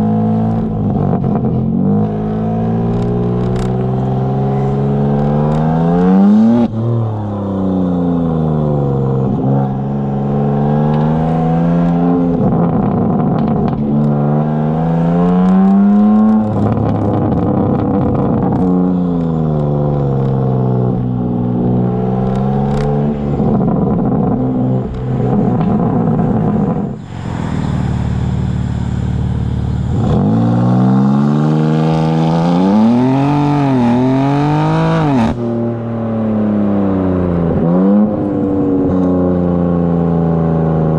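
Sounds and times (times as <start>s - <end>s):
car engine revving through gears: 0.0s - 40.9s.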